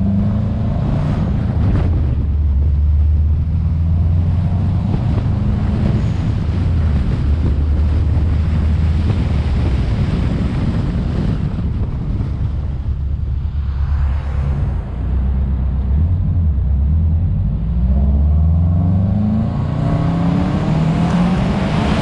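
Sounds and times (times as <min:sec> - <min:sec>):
car engine drone: 0:00.0 - 0:22.0
road noise: 0:00.0 - 0:22.0
wind buffeting microphone: 0:00.0 - 0:22.0.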